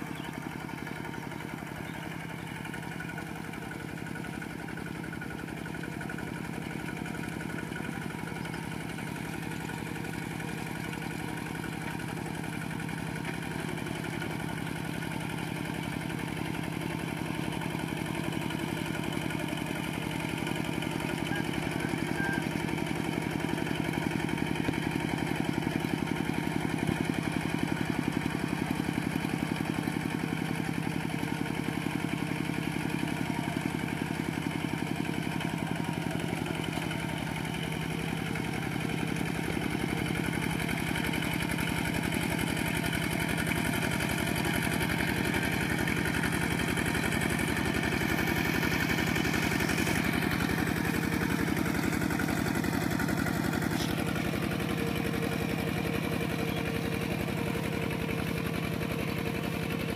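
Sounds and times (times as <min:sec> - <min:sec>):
diesel tractor engine running: 0:00.0 - 0:59.9
wheels working through mud: 0:00.2 - 0:59.9.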